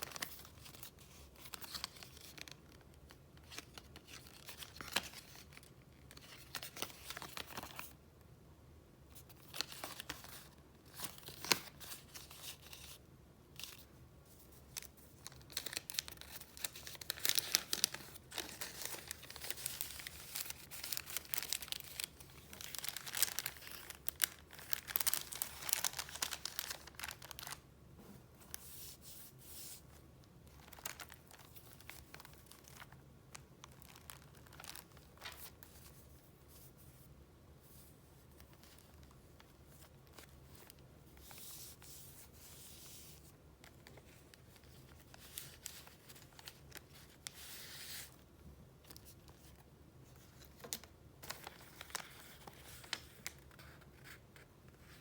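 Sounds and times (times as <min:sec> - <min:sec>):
paper rustling and crinkling: 0:00.0 - 0:08.0, 0:09.2 - 0:13.0, 0:13.6 - 0:37.1, 0:37.7 - 0:48.2, 0:48.8 - 0:55.0.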